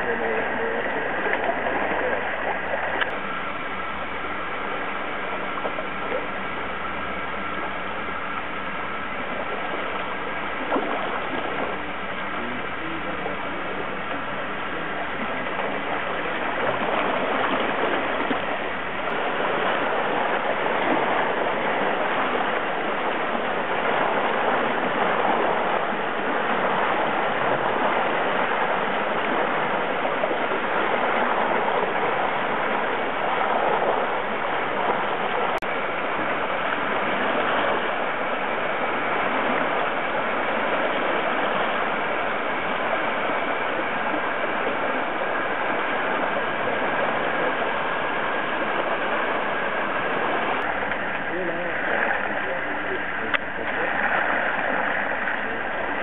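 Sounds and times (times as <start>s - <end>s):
water churning and splashing: 0.0s - 56.0s.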